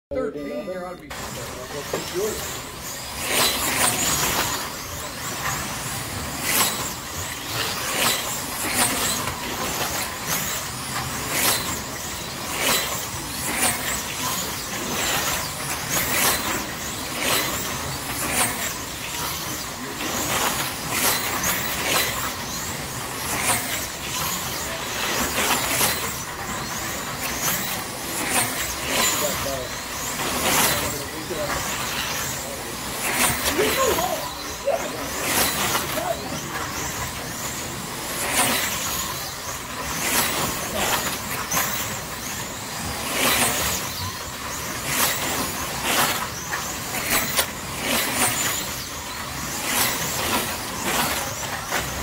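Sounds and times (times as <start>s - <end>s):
slot car motors whining: 0.1s - 52.0s.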